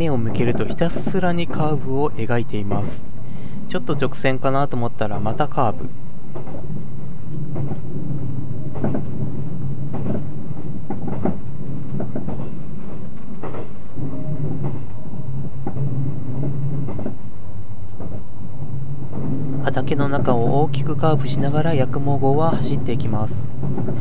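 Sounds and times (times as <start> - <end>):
train clacks and knocks: 0.0 - 24.0
train wheels rumbling on track: 0.0 - 24.0.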